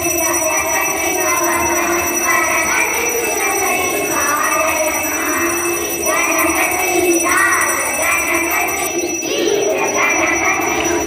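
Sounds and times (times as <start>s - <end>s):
devotional singing voices: 0.6s - 11.0s.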